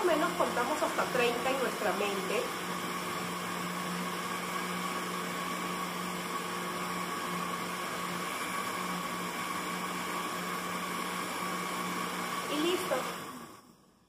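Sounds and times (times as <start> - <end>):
blender running: 0.0 - 13.8.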